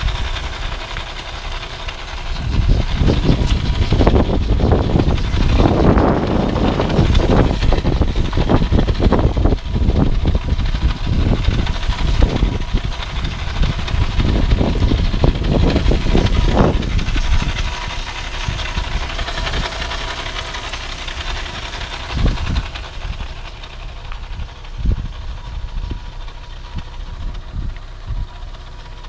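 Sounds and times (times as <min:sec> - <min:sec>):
car grinding and knocking: 0:00.0 - 0:29.0
road noise: 0:00.0 - 0:29.0.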